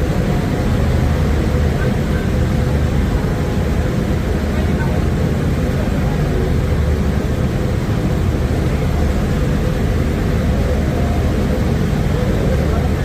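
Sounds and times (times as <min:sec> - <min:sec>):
faint constant hum: 0:00.0 - 0:13.0
loud low engine rumble: 0:00.0 - 0:13.0.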